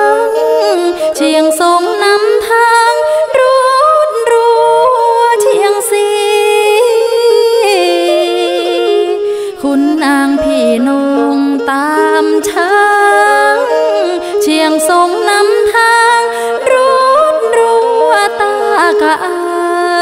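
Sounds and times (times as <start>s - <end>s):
bowed fiddle: 0.0s - 20.0s
woman singing folk melody: 0.0s - 20.0s.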